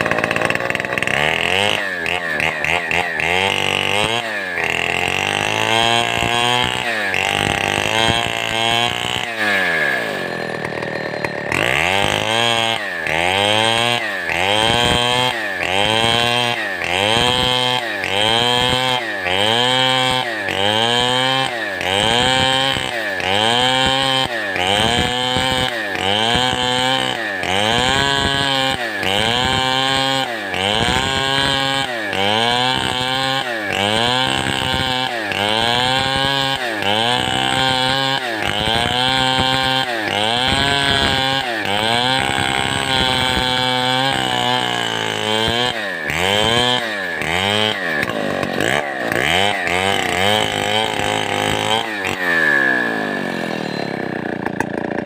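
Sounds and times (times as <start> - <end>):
chainsaw cutting at high revs: 0.0 - 55.0.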